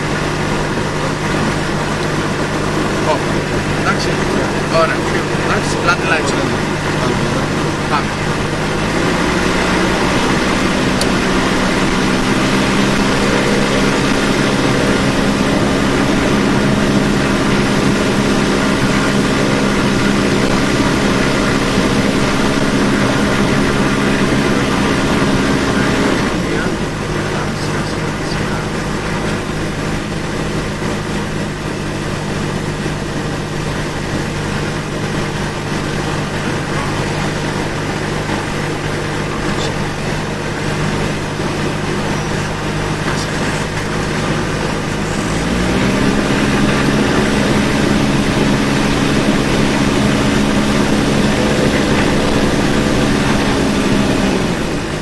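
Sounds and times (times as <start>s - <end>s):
aircraft piston engine running: 0.0s - 55.0s.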